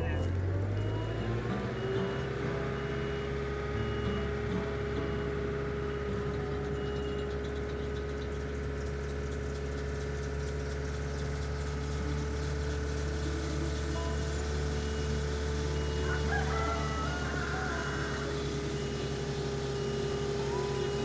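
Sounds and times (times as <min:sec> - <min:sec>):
skid steer engine running: 0:00.0 - 0:21.0.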